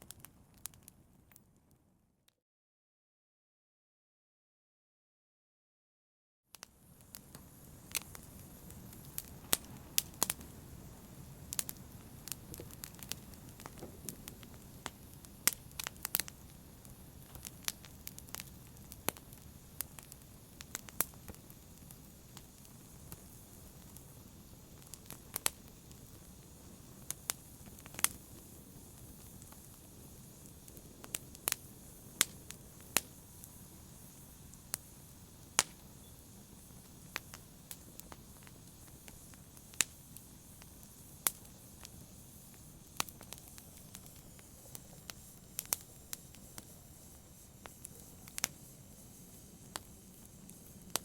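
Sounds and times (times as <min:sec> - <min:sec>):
wood fire crackling: 0:00.0 - 0:01.0, 0:06.6 - 0:51.0
low rumble of burning: 0:06.6 - 0:51.0.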